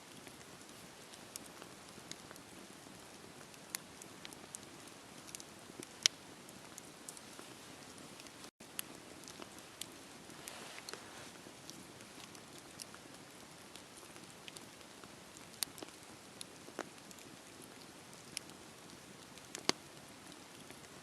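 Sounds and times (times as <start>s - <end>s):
wood fire crackling: 0.0s - 21.0s
fire pops and snaps: 0.2s - 21.0s.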